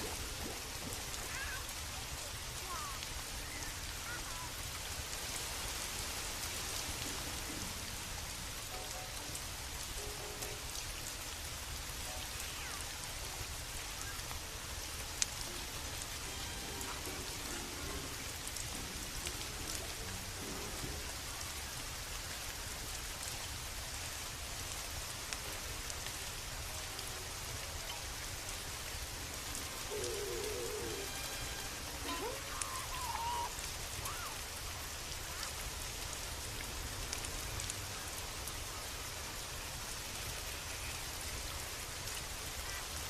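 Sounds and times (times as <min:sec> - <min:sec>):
rain falling against a window: 0:00.0 - 0:43.0
wood fire crackling: 0:00.0 - 0:43.0.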